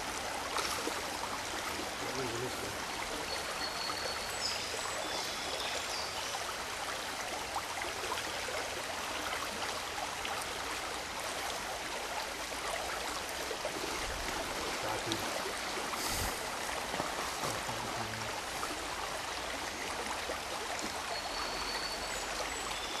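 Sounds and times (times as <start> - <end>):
stream running: 0.0 - 23.0.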